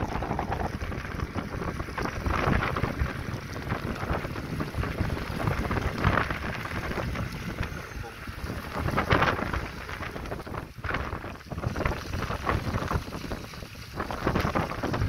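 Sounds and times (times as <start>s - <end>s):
water rushing along boat hull: 0.0s - 15.0s
wind buffeting microphone: 0.0s - 15.0s.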